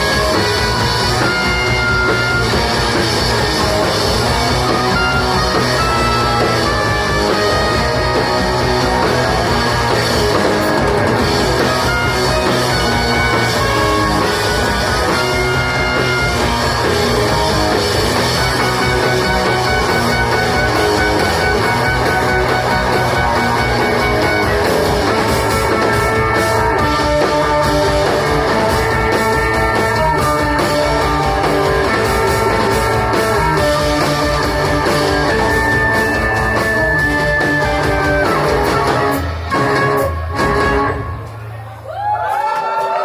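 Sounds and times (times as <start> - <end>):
live rock band playing: 0.0 - 42.3.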